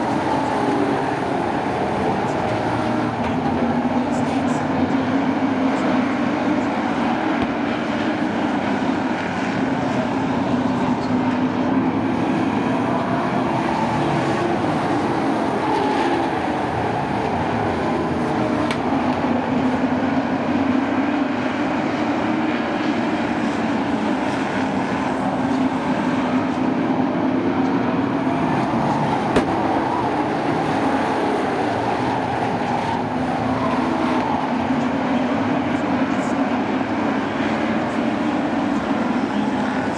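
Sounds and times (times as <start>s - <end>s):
racing truck engines: 0.0s - 39.9s.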